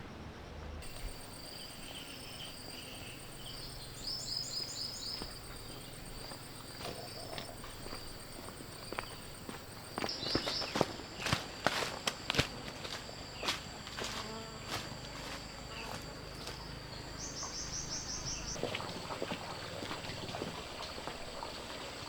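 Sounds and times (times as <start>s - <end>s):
insects trilling: 0.8s - 22.0s.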